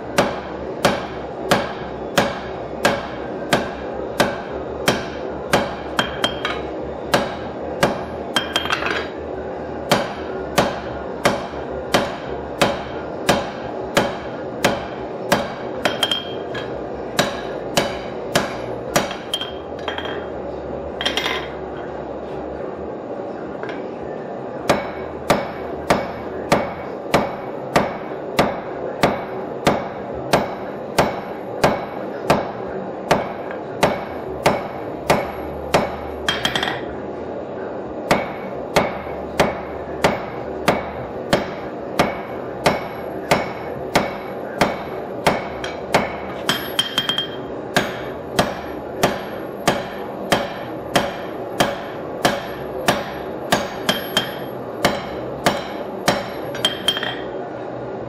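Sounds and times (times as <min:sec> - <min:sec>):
steady hum: 0:00.0 - 0:58.0
hammer striking steel on anvil: 0:00.1 - 0:09.1, 0:09.9 - 0:20.3, 0:24.7 - 0:36.9, 0:38.1 - 0:57.4.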